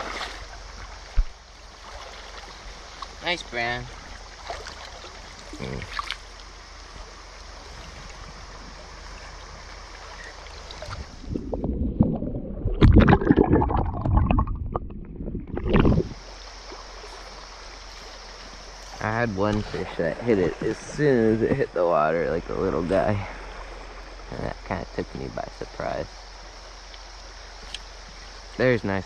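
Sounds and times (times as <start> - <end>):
underwater sloshing and gurgling: 0.0 - 28.6.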